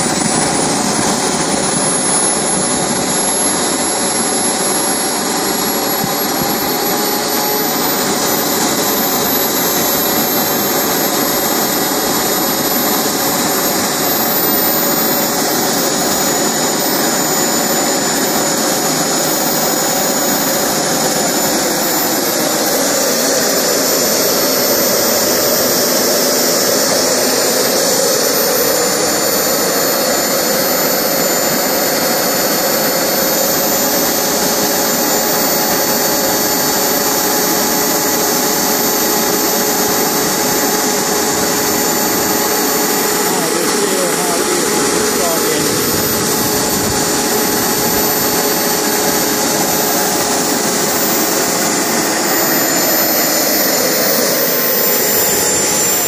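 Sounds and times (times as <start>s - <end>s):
high-pitched turbine whistle: 0.0s - 56.0s
turbine jet rush: 0.0s - 56.0s.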